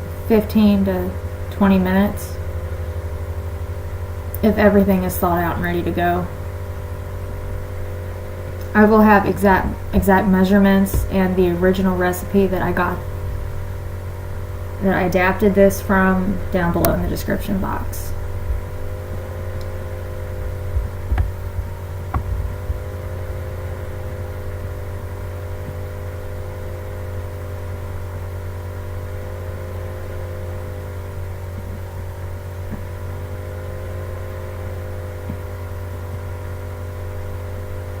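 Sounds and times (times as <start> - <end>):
steady machine hum: 0.0 - 38.0.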